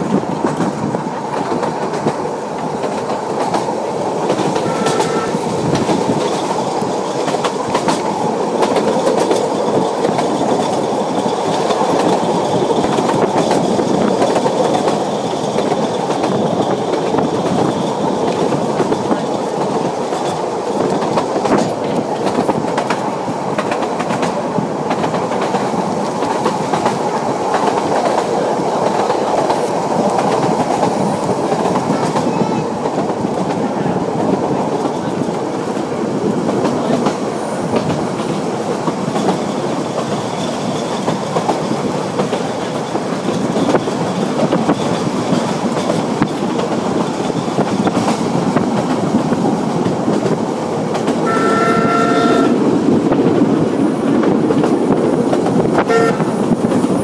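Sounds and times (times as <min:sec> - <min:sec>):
clicking over rail joints: 0:00.0 - 0:35.9, 0:36.5 - 0:57.0
train wheels on rails: 0:00.0 - 0:57.0.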